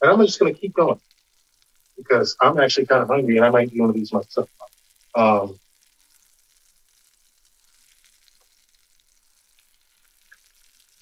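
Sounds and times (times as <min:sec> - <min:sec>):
patties sizzling in frying pan: 0:00.0 - 0:11.0
small crackles: 0:00.0 - 0:11.0.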